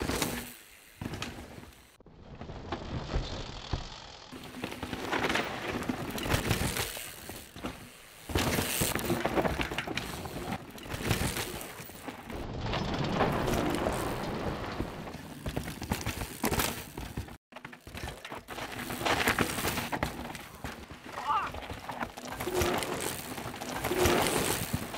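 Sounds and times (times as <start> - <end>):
bike rattling: 0.0 - 24.9
bike tyres skidding on dirt: 0.0 - 24.9.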